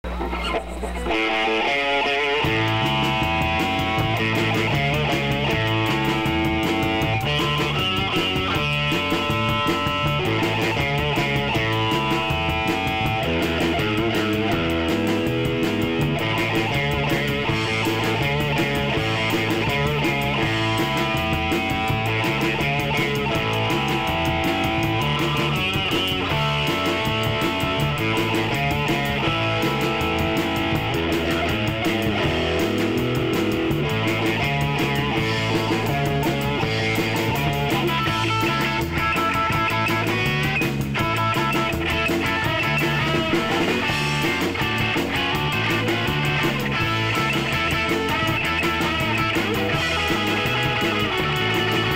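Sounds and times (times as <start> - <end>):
drum kit with cymbals: 0.0 - 51.9
electric bass: 0.0 - 51.9
electric guitar: 0.0 - 51.9
rock band playing live: 0.0 - 51.9.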